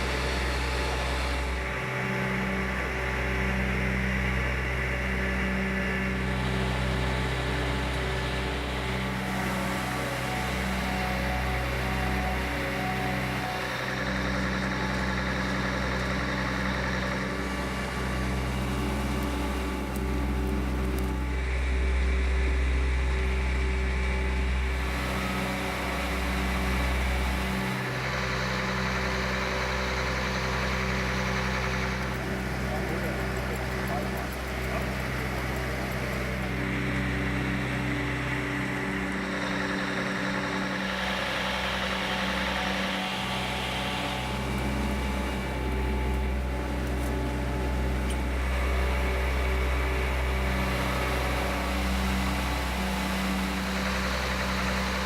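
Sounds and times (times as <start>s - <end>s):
engine running: 0.0s - 55.0s
motor humming steadily: 0.0s - 55.0s.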